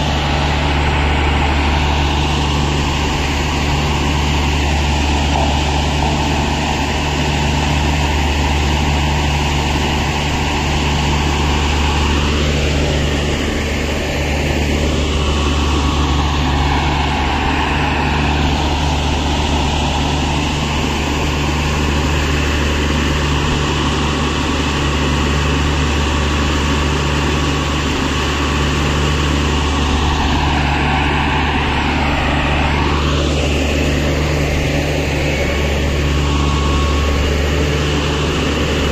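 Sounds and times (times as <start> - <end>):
crane whine rising and falling: 0.0 - 38.9
diesel engine running under load: 0.0 - 38.9.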